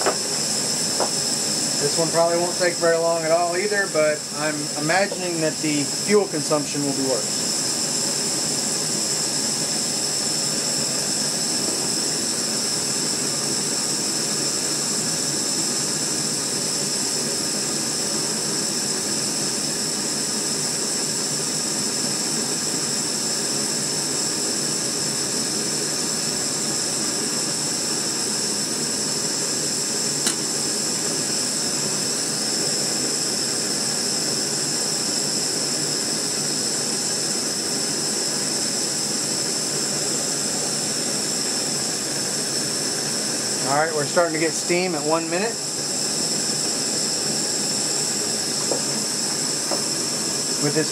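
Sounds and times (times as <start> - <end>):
gas stove hissing roar: 0.0 - 50.9.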